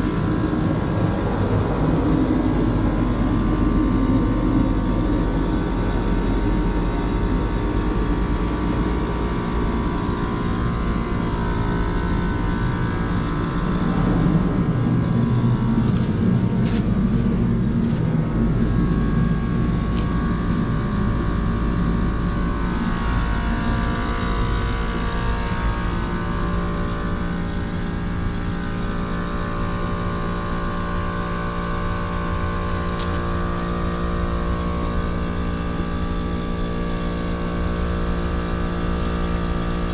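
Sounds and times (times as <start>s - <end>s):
heat pump humming: 0.0s - 39.9s.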